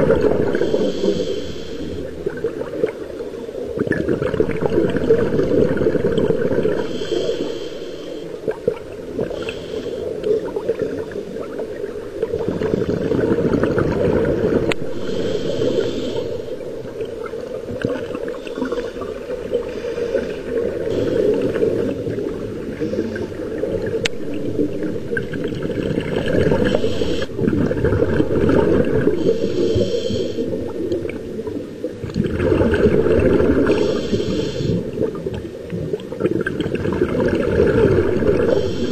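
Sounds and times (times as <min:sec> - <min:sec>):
exhaled bubbles underwater: 0:00.0 - 0:38.9
low underwater rush: 0:00.0 - 0:38.9.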